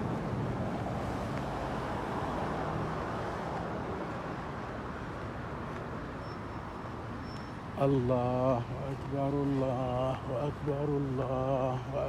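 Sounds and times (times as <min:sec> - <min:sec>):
car engine and tyre noise: 0:00.0 - 0:12.0.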